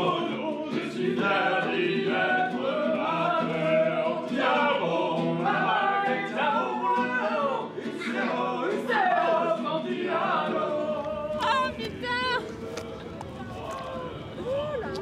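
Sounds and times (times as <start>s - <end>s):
group singing: 0.0s - 14.9s
acoustic guitar: 0.0s - 15.0s.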